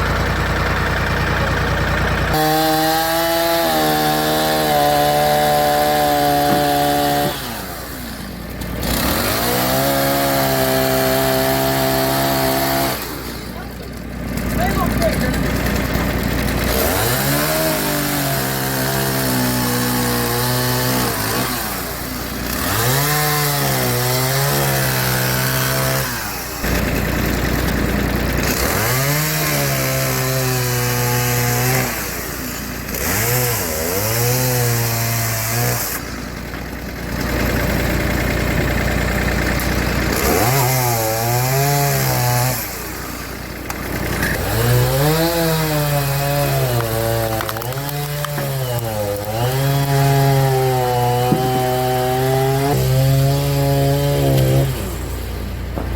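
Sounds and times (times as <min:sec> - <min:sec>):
chainsaw cutting logs: 0:00.0 - 0:55.9.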